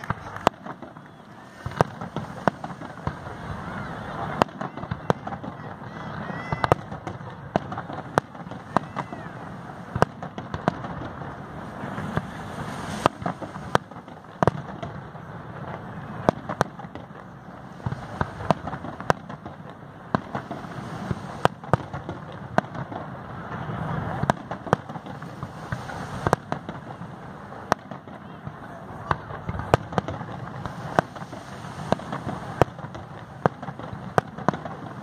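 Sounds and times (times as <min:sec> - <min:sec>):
fireworks bangs: 0:00.0 - 0:35.0
steady background noise: 0:00.0 - 0:35.0.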